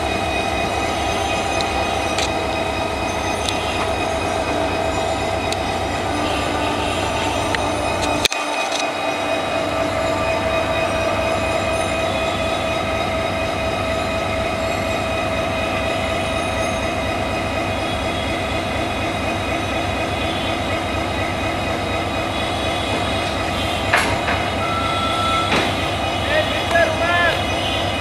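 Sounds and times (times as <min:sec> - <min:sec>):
locomotive engine idling: 0:00.0 - 0:28.0.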